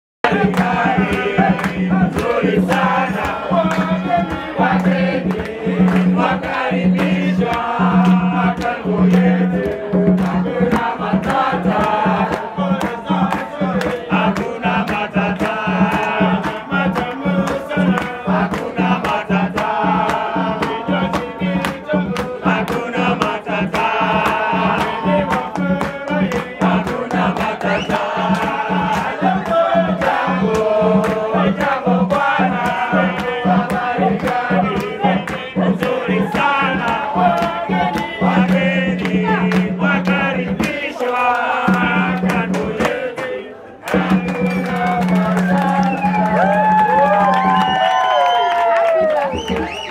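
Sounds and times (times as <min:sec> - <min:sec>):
men singing together: 0:00.2 - 0:47.8
drum steady beat: 0:00.2 - 0:49.9.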